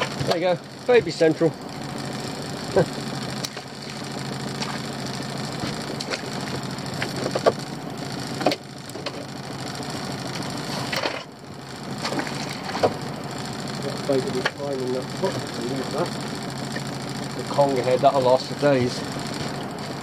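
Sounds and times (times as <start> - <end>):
boat engine idling: 0.0 - 20.0.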